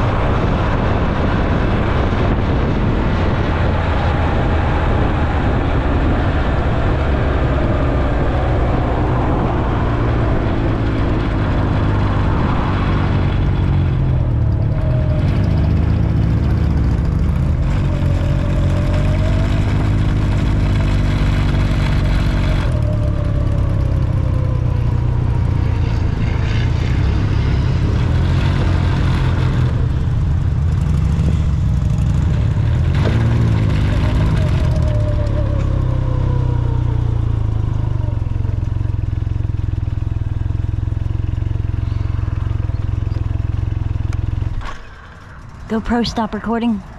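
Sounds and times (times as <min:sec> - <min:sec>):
motorcycle engine running: 0:00.0 - 0:46.9
wind noise: 0:00.0 - 0:46.9.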